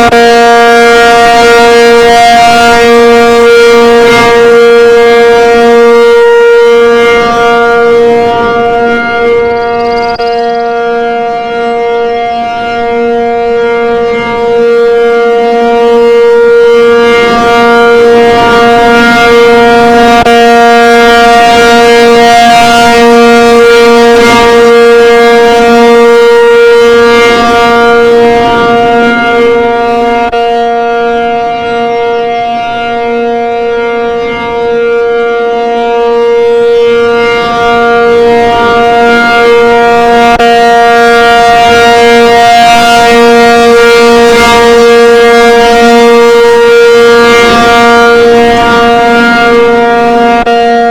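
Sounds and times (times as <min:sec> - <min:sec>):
siren steady alert tone: 0:00.0 - 0:50.9.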